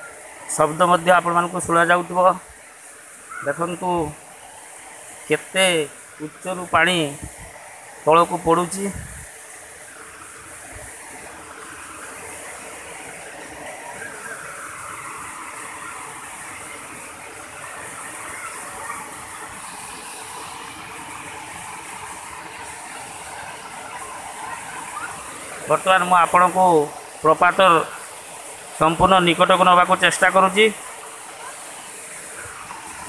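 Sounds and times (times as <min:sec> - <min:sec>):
waterfall rushing over rocks: 0:00.0 - 0:33.0.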